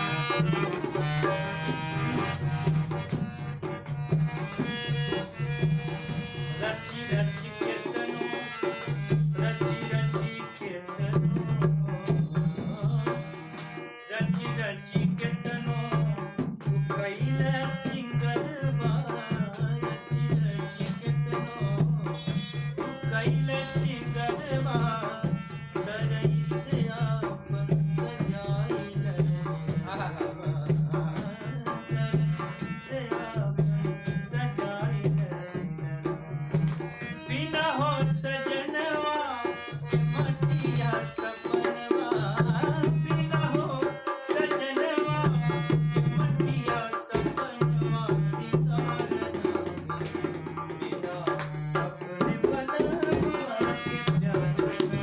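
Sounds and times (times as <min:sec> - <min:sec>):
dholak drum rhythm: 0:00.0 - 0:55.0
harmonium: 0:00.0 - 0:55.0
man singing: 0:00.0 - 0:55.0.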